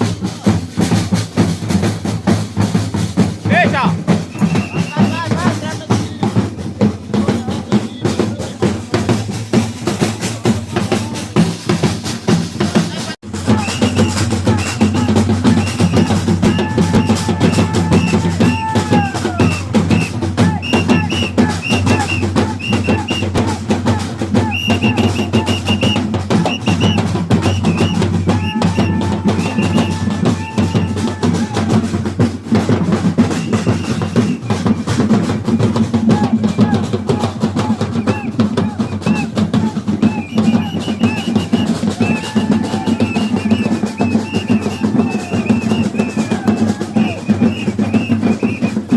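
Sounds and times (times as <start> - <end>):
bass drum and snare drumming: 0.0 - 48.9.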